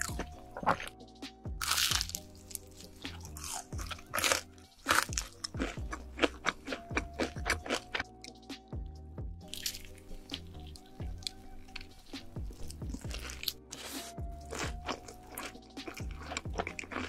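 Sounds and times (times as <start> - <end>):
soft background music: 0.0 - 17.0
crunching fried chicken: 1.6 - 8.0, 9.5 - 17.0.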